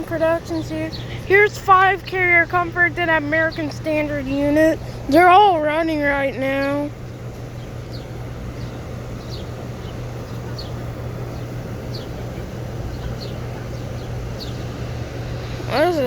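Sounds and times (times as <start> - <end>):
condenser fan rush: 0.0 - 16.0
low compressor hum: 0.0 - 16.0.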